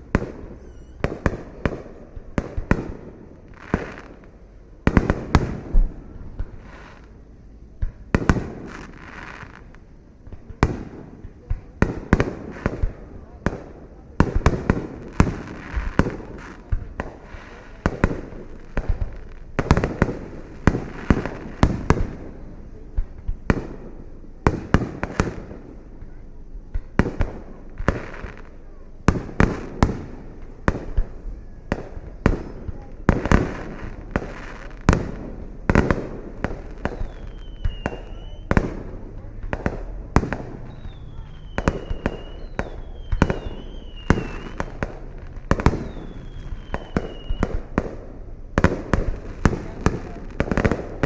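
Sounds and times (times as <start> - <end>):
fireworks booms and cracks: 0.0 - 51.0.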